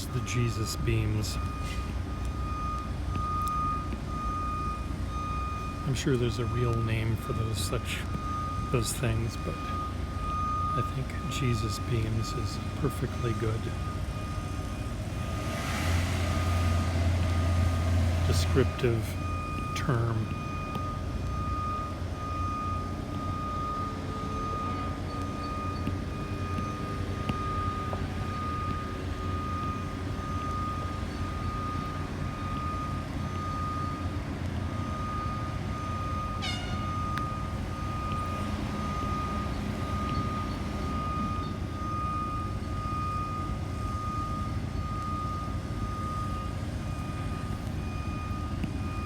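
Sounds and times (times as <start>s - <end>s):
construction noise: 0.0s - 49.0s
thin steady whine: 0.0s - 49.0s
urban traffic rumble: 0.0s - 49.0s.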